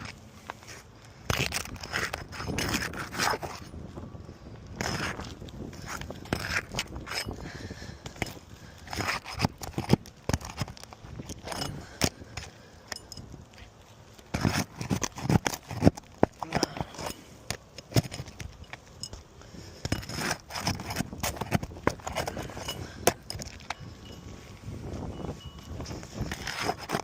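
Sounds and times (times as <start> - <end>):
scraping on roof shingles: 0.0 - 3.8, 4.7 - 12.7, 13.6 - 23.9, 25.8 - 27.0.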